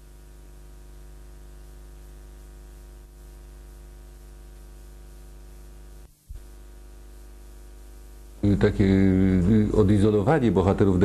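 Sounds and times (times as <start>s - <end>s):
electrical hum: 0.0s - 11.0s
faint hiss: 0.0s - 11.0s.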